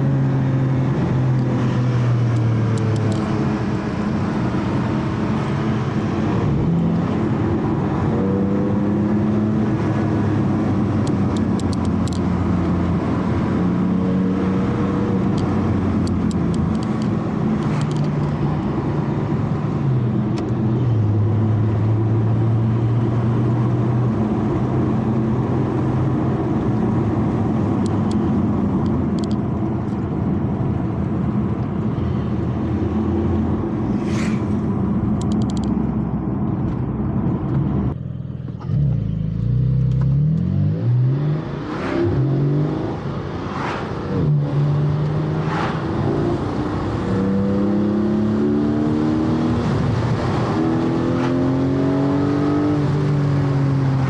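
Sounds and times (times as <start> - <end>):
tyre and road noise: 0.0 - 54.0.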